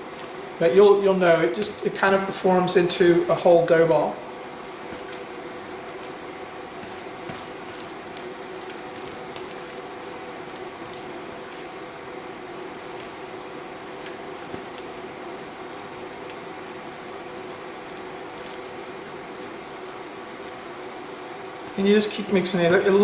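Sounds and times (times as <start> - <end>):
dough squishing in bowl: 0.0 - 0.7, 1.4 - 23.0
steady low hum: 0.0 - 23.0.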